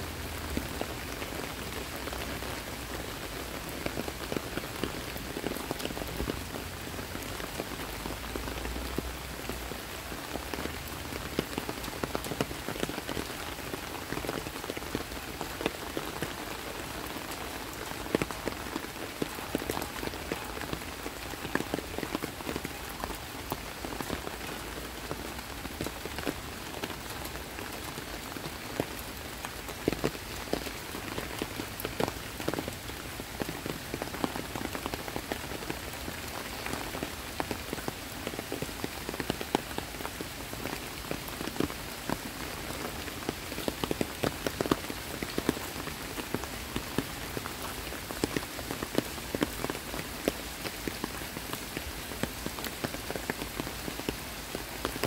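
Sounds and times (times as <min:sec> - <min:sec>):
steady rain on foliage: 0:00.0 - 0:55.0.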